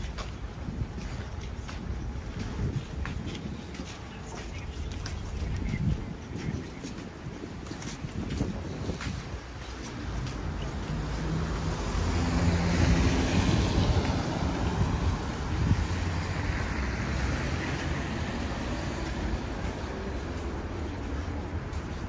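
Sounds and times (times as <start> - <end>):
city traffic: 0.0 - 22.0.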